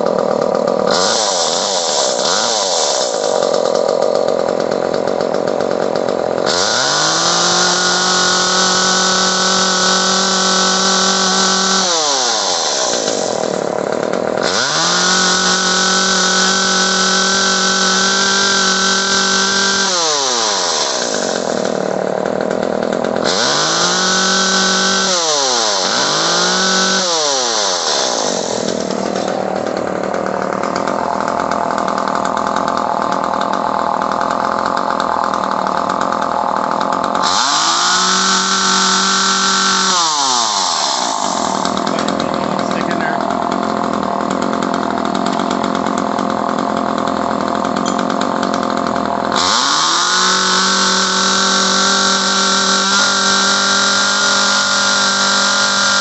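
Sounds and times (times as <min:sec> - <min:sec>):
chainsaw engine revving: 0:00.0 - 0:56.0.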